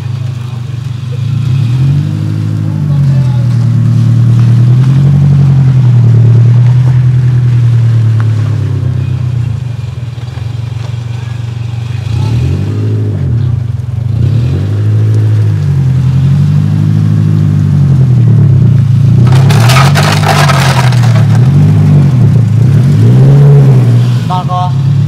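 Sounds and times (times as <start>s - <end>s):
crackling noise: 0.0s - 25.0s
rotary engine revving: 0.0s - 25.0s.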